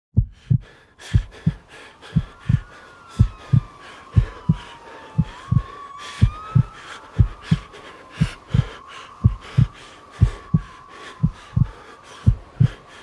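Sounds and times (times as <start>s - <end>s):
heartbeat low thumps: 0.2s - 12.9s.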